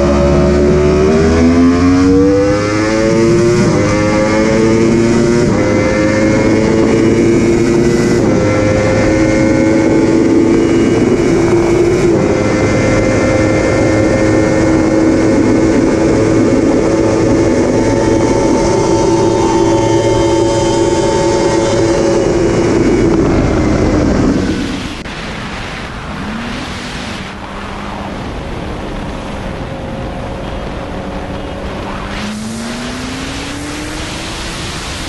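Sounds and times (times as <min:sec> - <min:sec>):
motorcycle engine at full throttle: 0:00.0 - 0:35.0
wind rush on microphone: 0:00.0 - 0:35.0.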